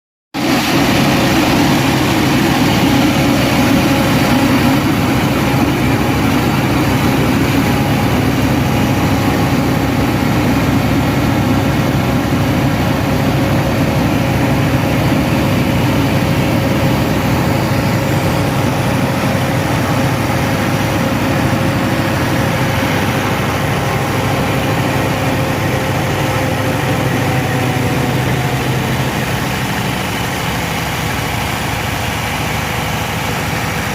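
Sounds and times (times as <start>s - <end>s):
diesel truck engine idling: 0.7s - 33.9s.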